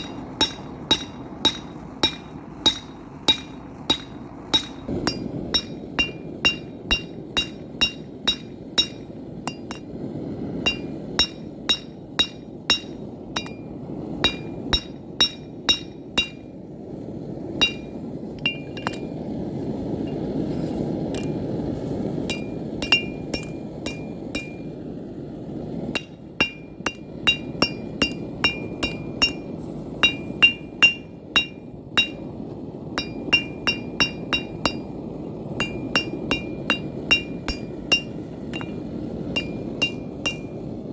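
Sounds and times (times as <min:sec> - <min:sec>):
hammer striking steel on anvil: 0:00.0 - 0:09.9, 0:10.6 - 0:16.6, 0:17.6 - 0:19.1, 0:21.2 - 0:21.4, 0:22.3 - 0:24.7, 0:26.0 - 0:32.4, 0:33.0 - 0:40.8
steady low rush: 0:00.0 - 0:40.9.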